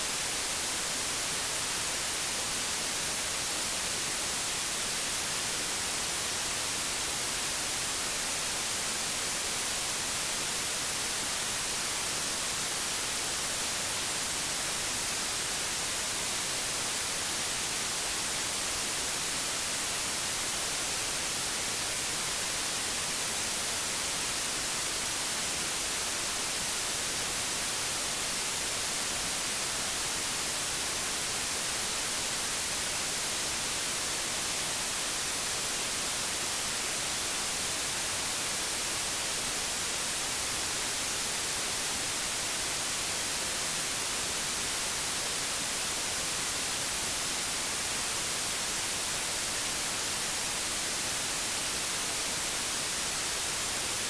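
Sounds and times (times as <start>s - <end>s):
television static hiss: 0.0s - 54.0s.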